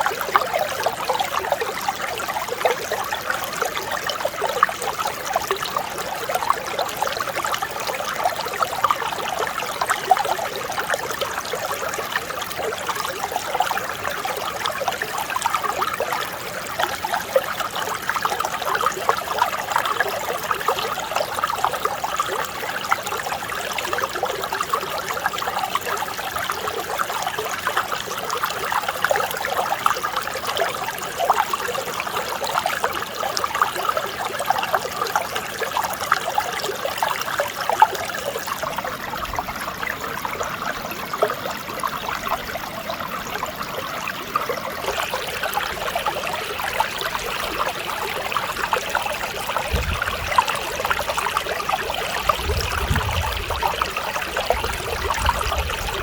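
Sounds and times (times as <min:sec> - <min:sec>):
stream babbling: 0:00.0 - 0:56.0.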